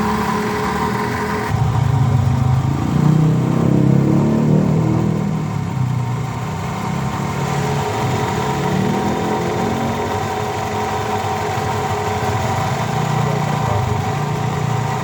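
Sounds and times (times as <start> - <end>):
car engine low growl: 0.0 - 15.0.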